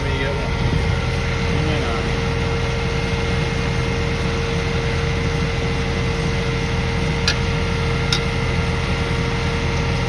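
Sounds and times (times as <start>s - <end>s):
engine humming and rumbling: 0.0s - 10.0s.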